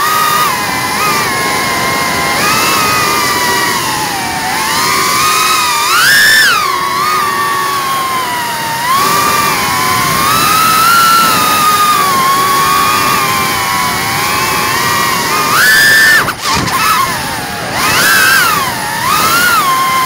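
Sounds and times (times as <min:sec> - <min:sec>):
drone motors whining: 0:00.0 - 0:20.0
propeller and air rush: 0:00.0 - 0:20.0.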